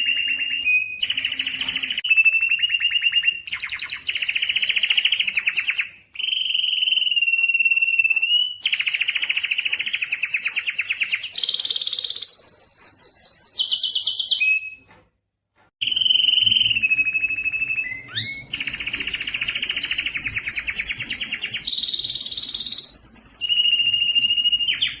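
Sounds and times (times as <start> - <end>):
canary singing trilled phrases: 0.0 - 14.9, 15.8 - 25.0.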